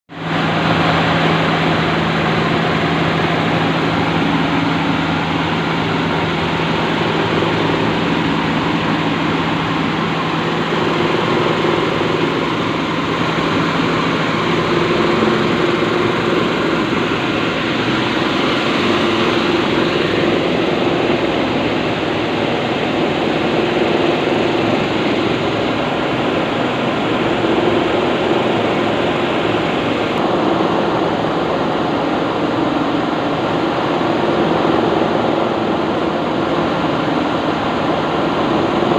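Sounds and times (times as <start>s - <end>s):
low hum: 0.1s - 38.9s
rice milling machine running: 0.1s - 38.9s.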